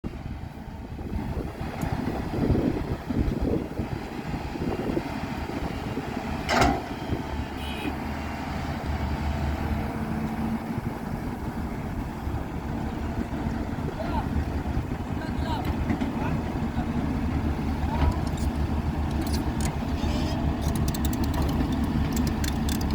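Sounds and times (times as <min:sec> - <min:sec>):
excavator diesel engine running: 0:00.1 - 0:22.9.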